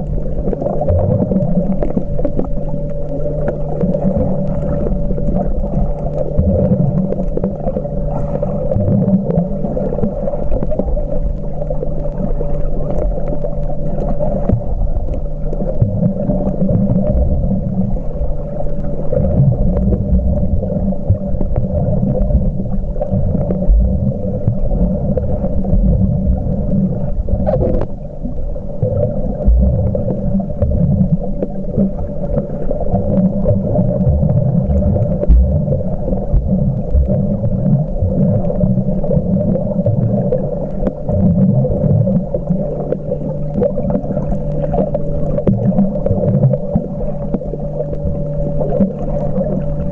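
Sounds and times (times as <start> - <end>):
low underwater hum: 0.0 - 49.9
water sloshing and gurgling: 0.0 - 49.9.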